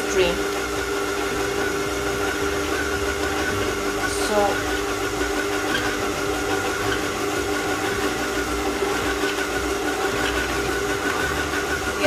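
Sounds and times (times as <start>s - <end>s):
electric mixer motor whine: 0.0s - 12.0s.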